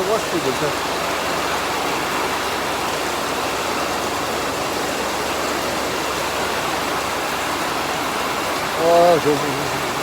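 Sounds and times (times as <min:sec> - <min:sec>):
rain shower falling: 0:00.0 - 0:10.0.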